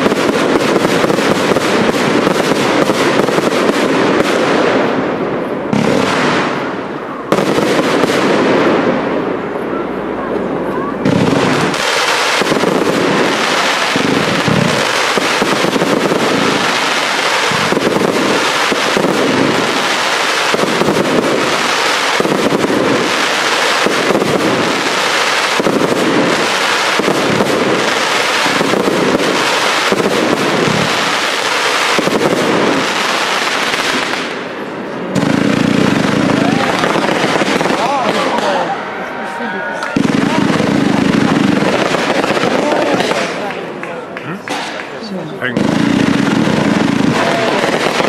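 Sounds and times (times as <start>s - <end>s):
fireworks crackling: 0.0s - 48.0s
fireworks shots and bursts: 0.0s - 48.0s.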